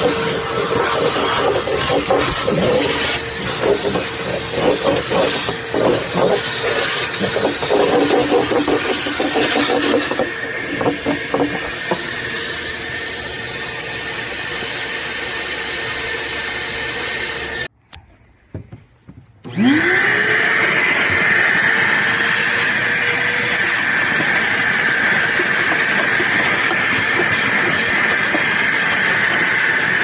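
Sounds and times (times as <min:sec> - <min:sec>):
pump whine rising: 0:00.0 - 0:17.7, 0:19.4 - 0:30.0.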